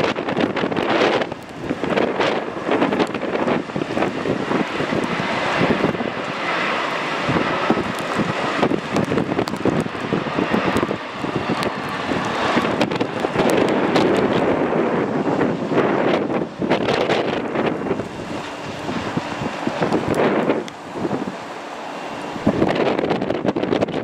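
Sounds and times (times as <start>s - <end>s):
jet engines on approach: 0.0s - 24.0s
wind buffeting microphone: 0.0s - 24.0s.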